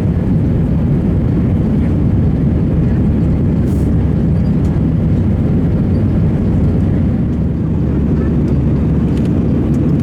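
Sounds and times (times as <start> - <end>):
airplane cabin engine noise: 0.0 - 10.0.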